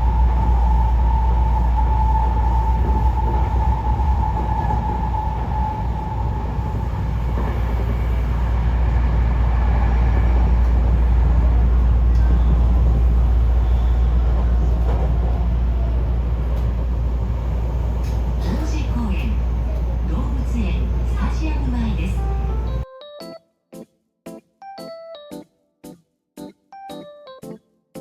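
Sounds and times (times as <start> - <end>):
train rumbling: 0.0 - 22.8.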